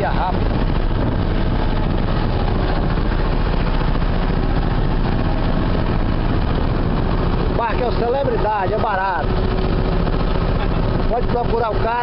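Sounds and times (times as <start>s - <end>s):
boat engine running: 0.0s - 12.0s
foaming wake rushing along hull: 0.0s - 12.0s.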